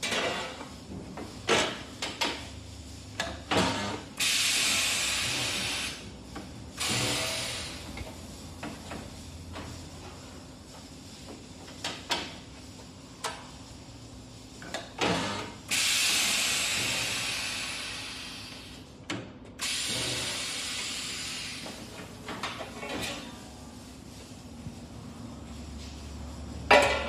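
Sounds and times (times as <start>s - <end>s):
compressed air hissing: 1.2s - 19.0s, 19.6s - 26.6s.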